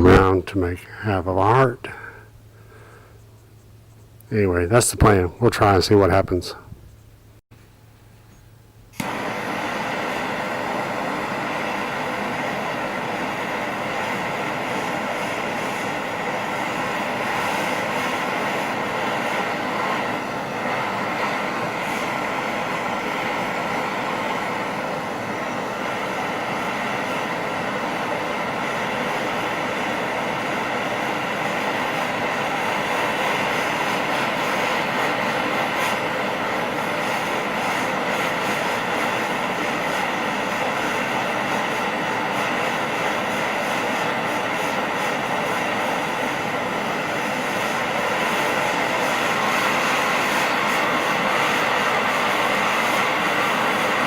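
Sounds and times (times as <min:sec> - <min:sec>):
gas torch roaring: 0:00.0 - 0:06.8, 0:08.8 - 0:54.0.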